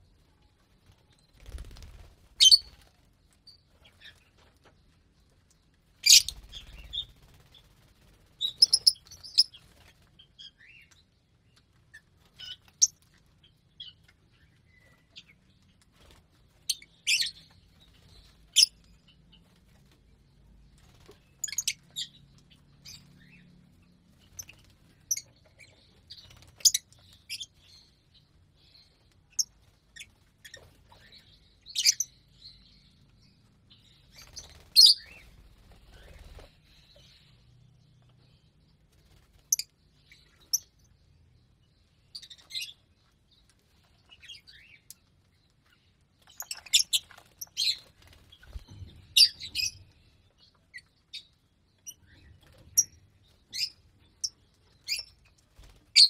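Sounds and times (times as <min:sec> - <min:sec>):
birds chirping high-pitched: 0:00.0 - 0:56.0.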